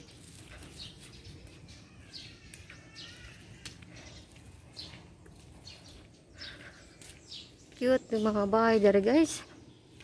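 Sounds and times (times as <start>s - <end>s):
birds chirping downward calls: 0.0s - 10.0s.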